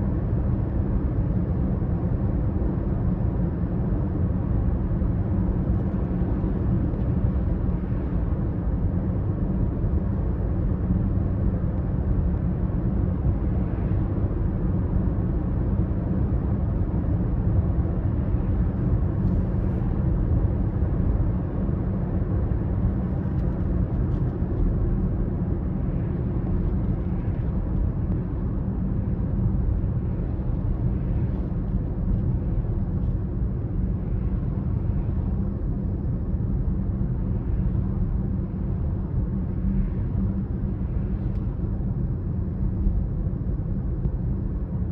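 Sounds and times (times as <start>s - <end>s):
car moving low rumble: 0.0s - 44.9s.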